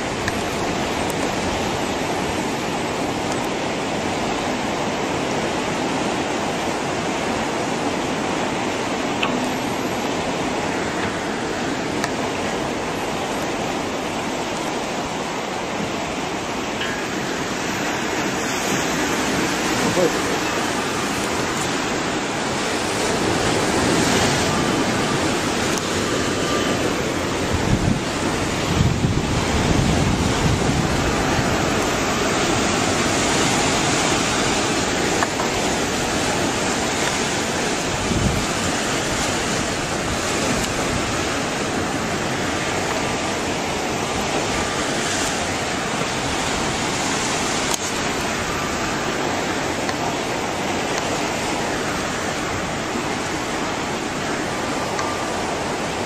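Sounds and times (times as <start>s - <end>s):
turbulent water rushing: 0.0s - 56.0s
wind buffeting microphone: 0.0s - 56.0s.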